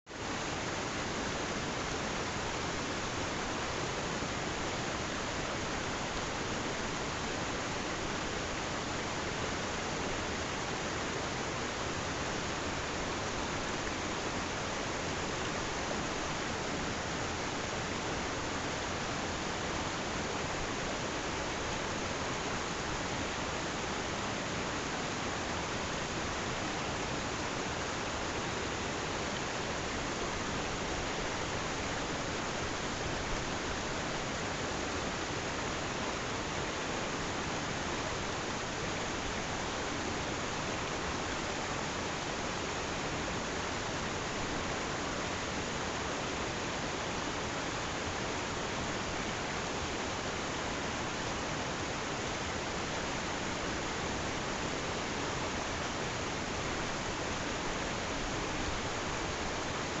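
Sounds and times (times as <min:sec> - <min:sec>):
water rushing: 0:00.2 - 1:00.0.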